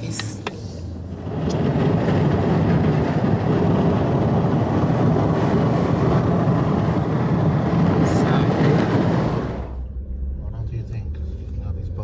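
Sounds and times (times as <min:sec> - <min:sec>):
wind noise: 0:00.0 - 0:09.8
road noise: 0:00.0 - 0:12.0.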